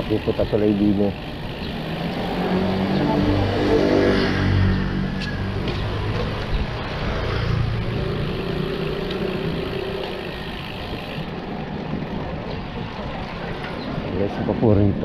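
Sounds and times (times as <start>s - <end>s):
low road noise rumble: 0.0s - 15.0s
motor vehicles running: 0.0s - 15.0s.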